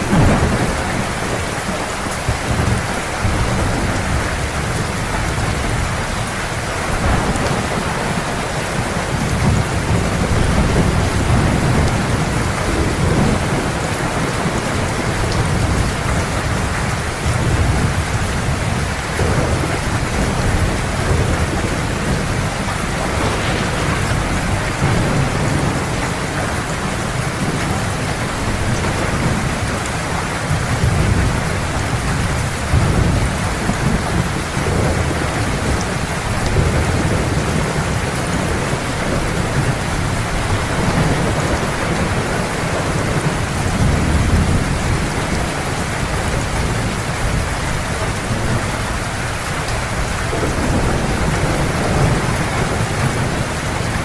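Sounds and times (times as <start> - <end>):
thunder rumbling: 0.0 - 49.0, 49.9 - 54.0
heavy rain: 0.0 - 54.0.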